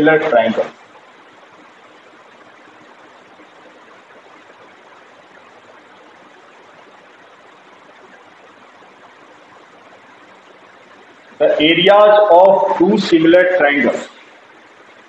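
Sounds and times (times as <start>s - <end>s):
faint hum: 0.0s - 15.0s
low room noise hiss: 0.0s - 15.0s.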